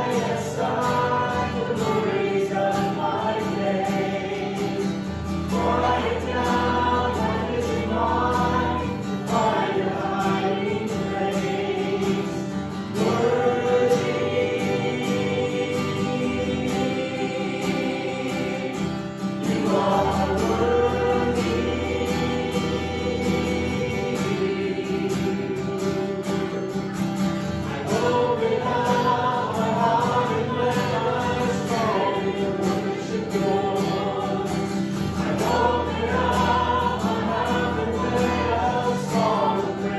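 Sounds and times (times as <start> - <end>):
band with guitar: 0.0 - 39.9
group of voices singing: 0.0 - 39.9.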